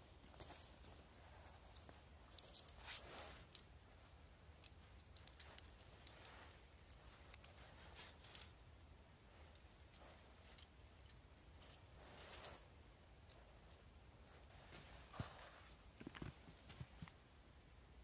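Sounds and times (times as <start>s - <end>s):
soft rustles: 0.0s - 17.4s.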